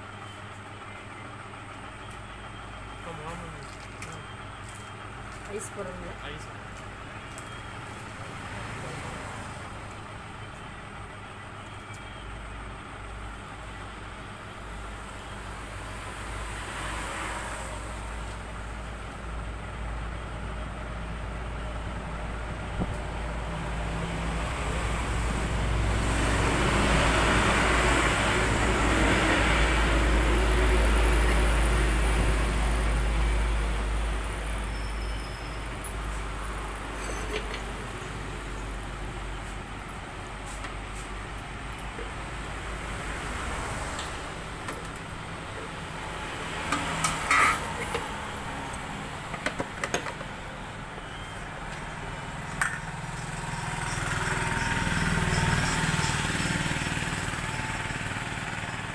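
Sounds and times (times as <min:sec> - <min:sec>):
road traffic engine rumble: 0:00.0 - 0:58.9.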